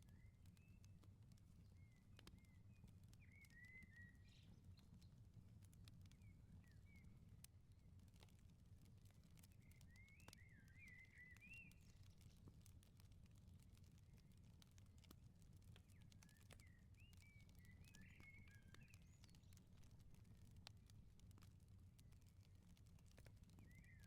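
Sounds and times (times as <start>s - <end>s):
wood fire crackling and popping: 0.1s - 24.0s.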